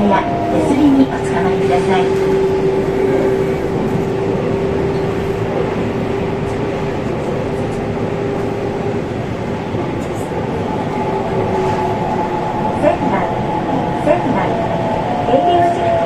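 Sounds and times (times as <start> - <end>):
train motor hum: 0.0 - 16.0
train wheels rumbling: 0.0 - 16.0.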